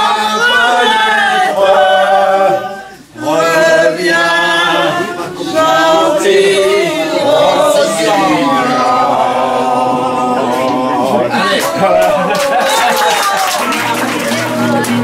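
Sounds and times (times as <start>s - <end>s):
people singing together: 0.0s - 15.0s.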